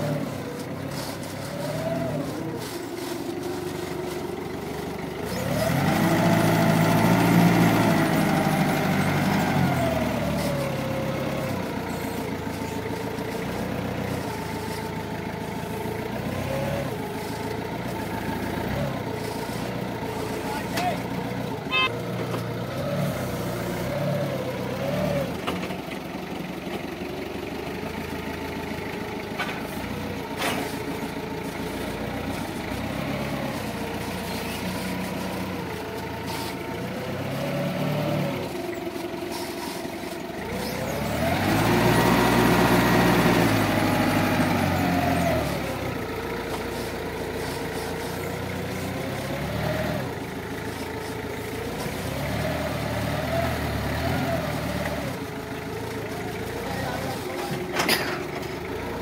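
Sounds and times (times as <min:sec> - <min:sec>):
forklift engine running: 0:00.0 - 0:59.0.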